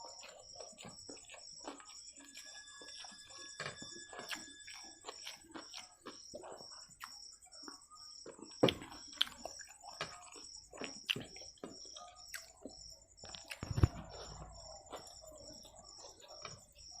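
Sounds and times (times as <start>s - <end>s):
chewing noodles: 0.0s - 17.0s.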